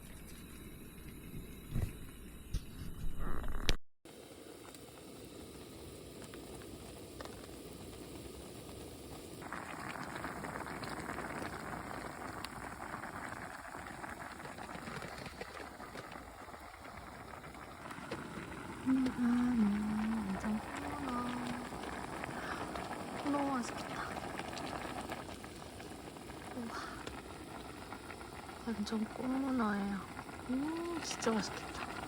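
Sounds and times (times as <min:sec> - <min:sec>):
pot boiling and bubbling: 0:00.0 - 0:32.0.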